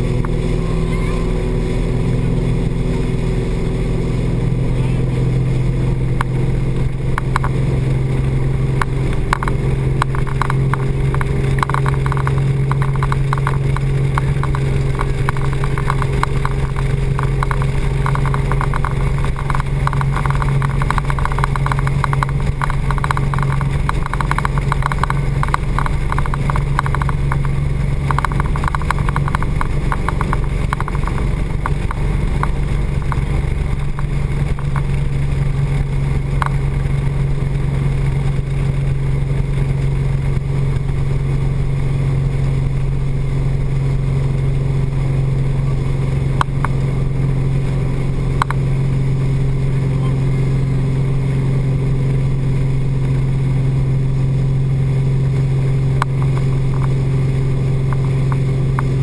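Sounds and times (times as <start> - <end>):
speedboat engine drone: 0.0 - 59.0
water rushing under hull: 0.0 - 59.0
water slapping the hull: 0.0 - 59.0.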